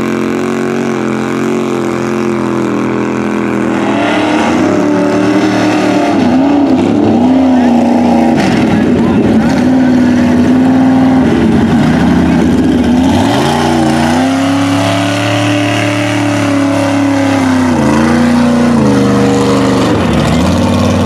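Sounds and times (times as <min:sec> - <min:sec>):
truck engine revving: 0:00.0 - 0:21.0
tyres churning through mud: 0:00.0 - 0:21.0.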